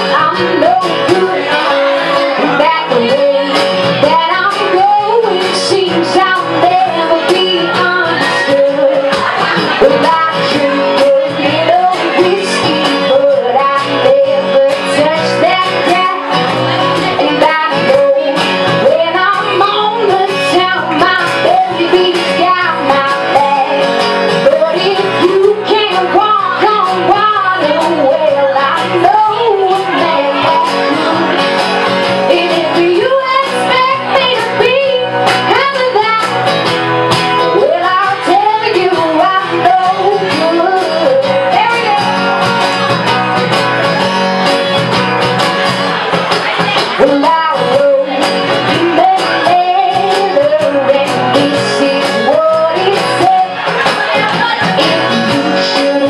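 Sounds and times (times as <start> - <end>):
woman singing into a microphone: 0.0 - 43.0, 46.6 - 56.0
acoustic guitar: 0.0 - 56.0.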